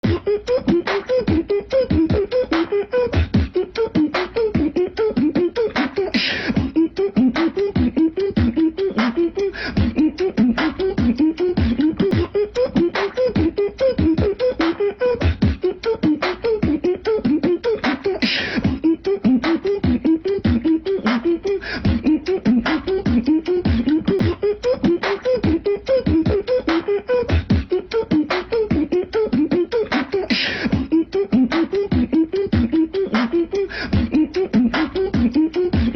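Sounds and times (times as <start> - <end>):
beatbox drum sounds: 0.0 - 35.9
beatbox long hiss: 0.0 - 35.9
beatbox police-whistle imitation: 0.0 - 35.9.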